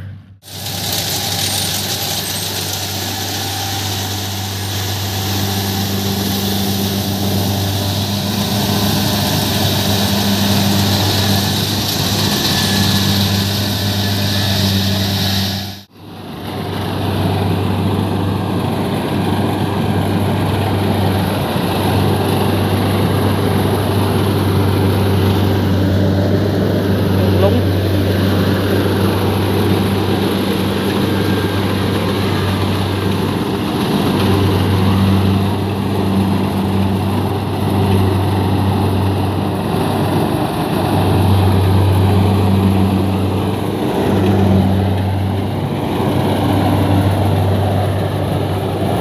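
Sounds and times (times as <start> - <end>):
combine harvester droning: 0.0 - 49.0.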